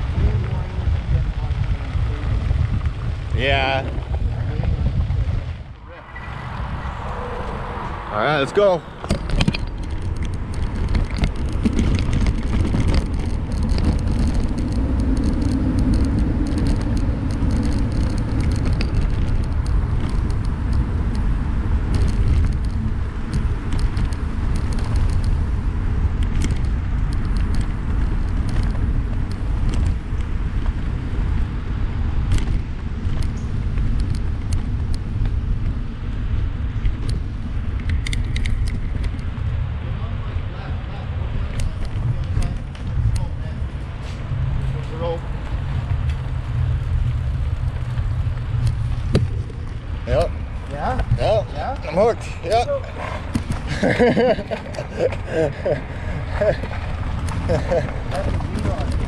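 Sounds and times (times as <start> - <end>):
wind and tyre noise: 0.0 - 59.0.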